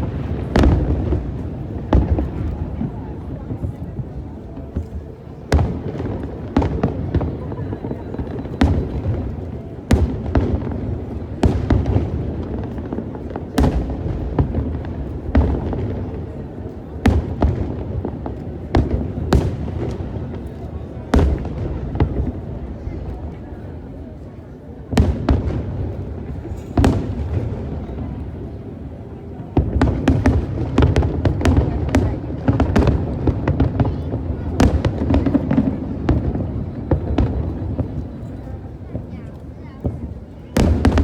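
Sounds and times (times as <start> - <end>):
fireworks bangs: 0.0 - 41.0
low rumble of fireworks display: 0.0 - 41.0.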